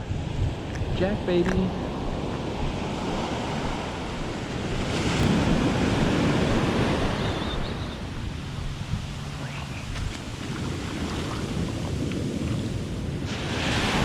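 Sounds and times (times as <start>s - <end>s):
ocean surf breaking: 0.0s - 14.0s
wind on microphone: 0.0s - 14.0s.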